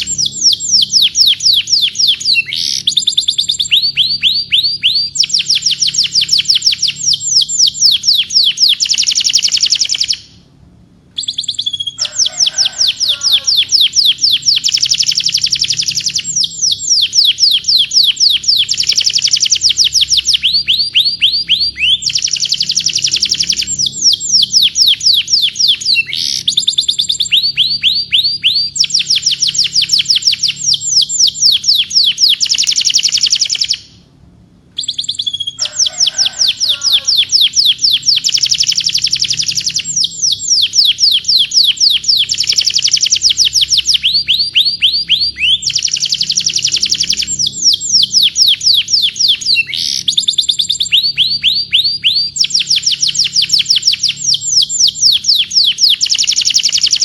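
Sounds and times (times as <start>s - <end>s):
canary singing trills: 0.0s - 10.5s, 11.1s - 34.0s, 34.8s - 57.0s.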